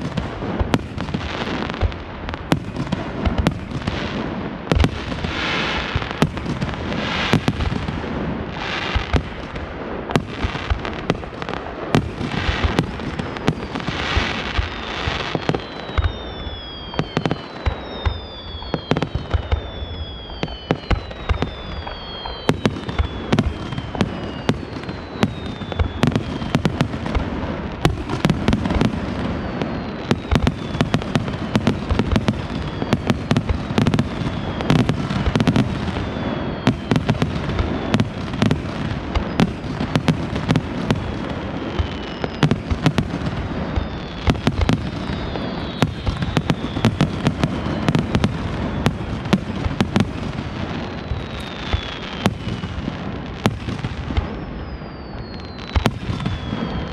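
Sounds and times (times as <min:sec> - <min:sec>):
falling firework whistles: 0:00.0 - 0:56.9
fireworks bursting and crackling: 0:00.0 - 0:56.9.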